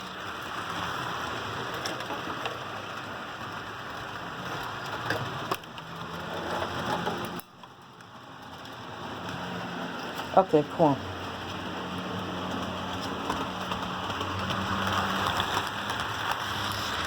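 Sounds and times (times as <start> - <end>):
clicks over rail joints: 0.0 - 17.0
model train wheels rattling: 0.0 - 17.0.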